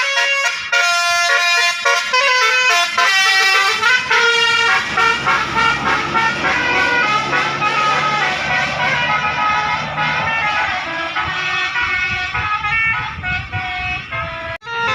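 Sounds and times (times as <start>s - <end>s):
bus air horn playing tune: 0.0s - 14.9s.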